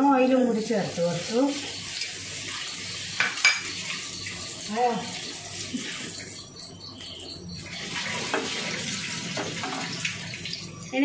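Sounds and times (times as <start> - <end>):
oil sizzling in a pan: 0.3 - 6.4, 7.5 - 11.0.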